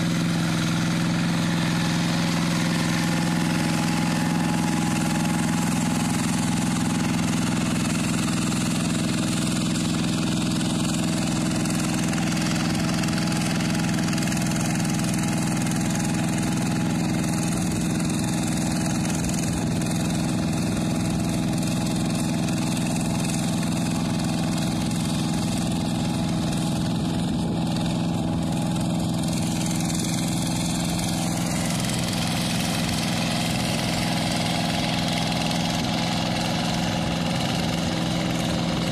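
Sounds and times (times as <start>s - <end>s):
hand tractor engine running: 0.0s - 38.9s.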